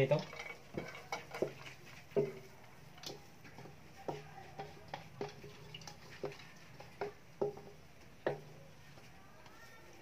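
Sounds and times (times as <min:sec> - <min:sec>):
utensil scraping metal bowl: 0:00.0 - 0:08.4.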